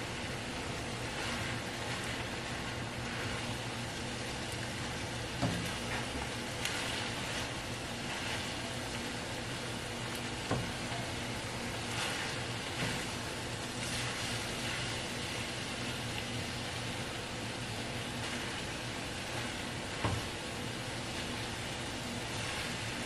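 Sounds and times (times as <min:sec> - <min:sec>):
meat and vegetables sizzling in skillet: 0:00.0 - 0:23.0
spatula stirring: 0:00.5 - 0:16.8, 0:18.0 - 0:20.4, 0:21.0 - 0:23.0.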